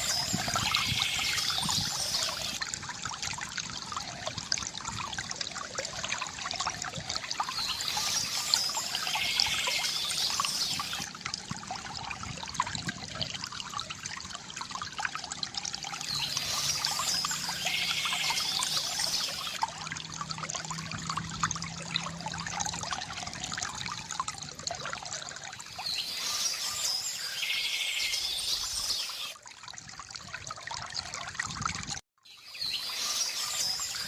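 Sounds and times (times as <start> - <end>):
water trickling from fountain: 0.0 - 34.0.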